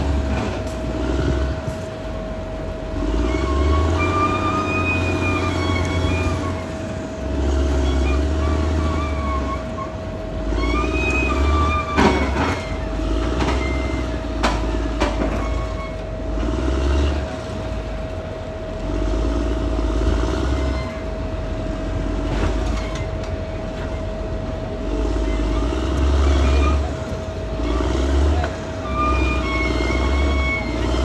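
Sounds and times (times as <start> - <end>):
bulldozer diesel engine droning: 0.0 - 31.0.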